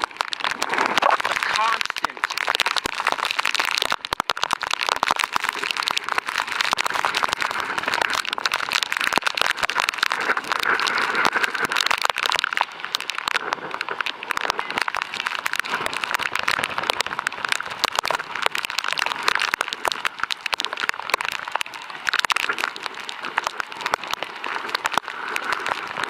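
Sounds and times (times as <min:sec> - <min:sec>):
heavy rain on pavement: 0:00.0 - 0:26.0.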